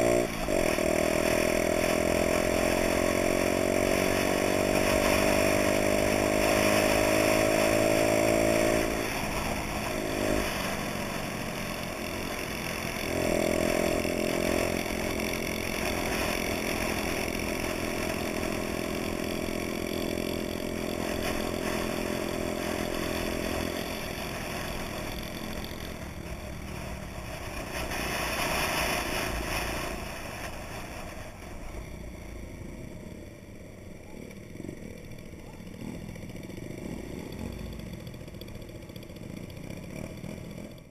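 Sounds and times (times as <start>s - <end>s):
moped engine running: 0.0s - 40.9s.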